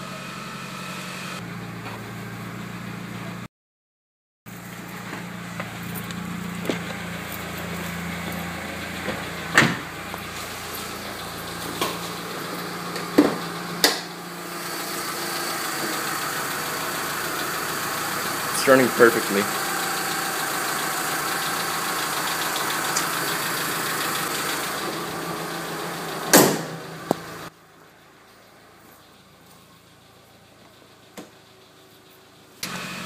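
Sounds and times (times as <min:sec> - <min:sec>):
car engine idling: 0:04.5 - 0:32.9.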